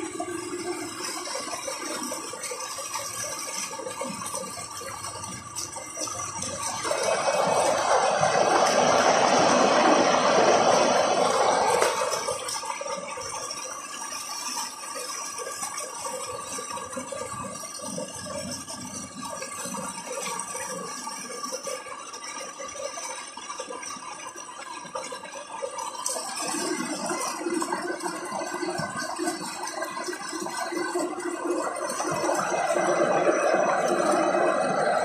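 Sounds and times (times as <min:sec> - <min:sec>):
water gushing from a pipe: 0:00.0 - 0:35.0
water pump tone: 0:00.0 - 0:35.0.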